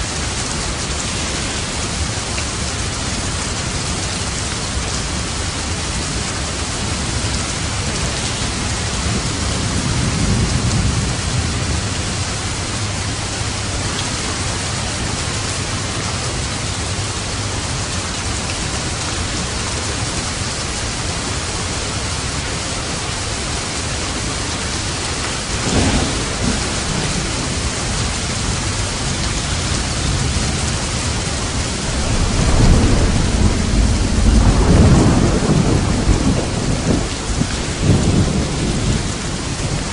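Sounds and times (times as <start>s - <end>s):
heavy rain: 0.0s - 39.9s
rolling thunder: 0.1s - 18.1s, 23.3s - 39.9s.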